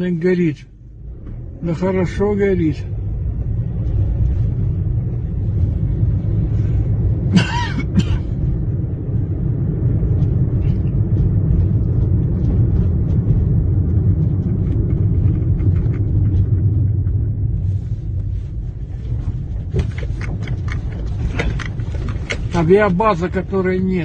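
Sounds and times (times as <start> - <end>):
engine and road noise: 0.0 - 24.0.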